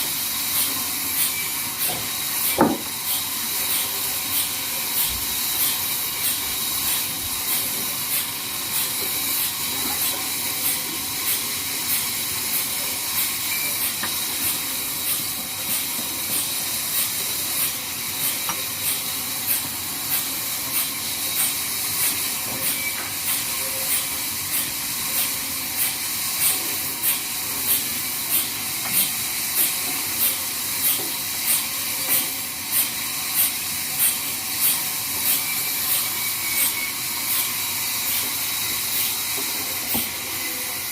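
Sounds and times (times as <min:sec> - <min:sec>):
band saw hiss and whine: 0:00.0 - 0:40.9.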